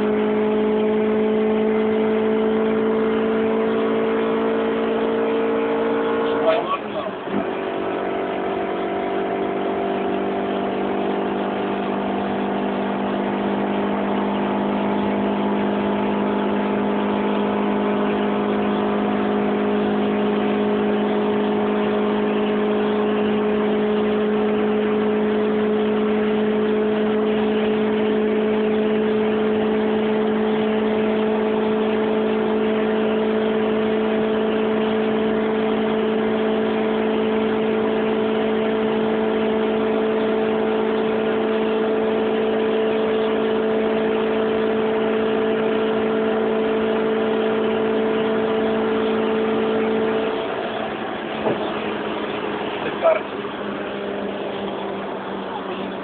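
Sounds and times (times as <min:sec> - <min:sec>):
car engine droning: 0:00.0 - 0:56.0
road noise: 0:00.0 - 0:56.0.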